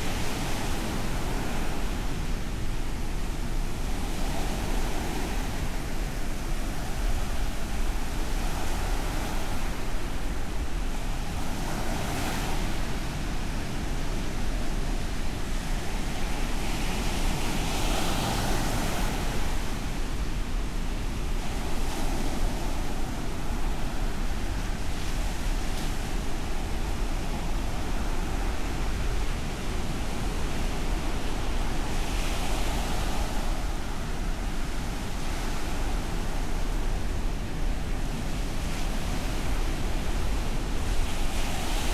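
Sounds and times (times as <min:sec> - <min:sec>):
ocean surf on beach: 0:00.0 - 0:41.9
wind rumble on microphone: 0:00.0 - 0:41.9.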